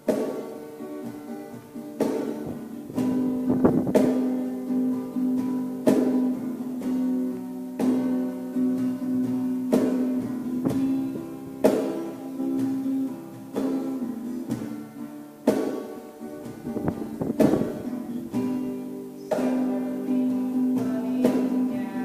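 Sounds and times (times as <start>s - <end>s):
acoustic guitar chords: 0.0s - 22.0s.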